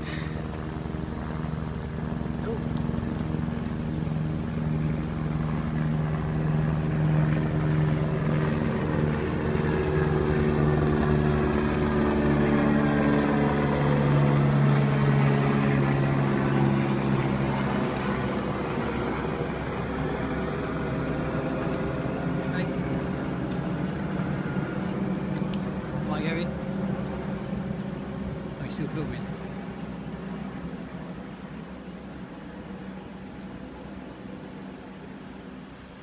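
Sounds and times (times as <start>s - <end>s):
aircraft engine drone passing over: 0.0s - 36.0s.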